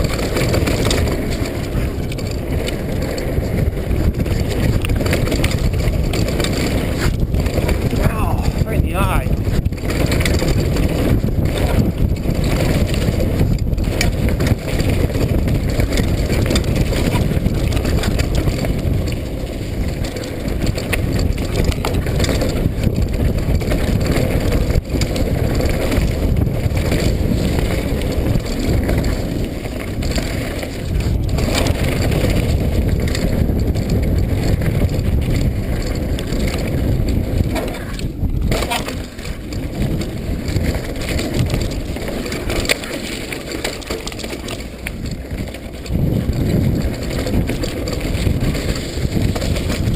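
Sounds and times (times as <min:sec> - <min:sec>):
bike rattling and knocking: 0:00.0 - 0:49.9
tyres crunching over mud and gravel: 0:00.0 - 0:49.9
wind rumble on microphone: 0:00.0 - 0:49.9.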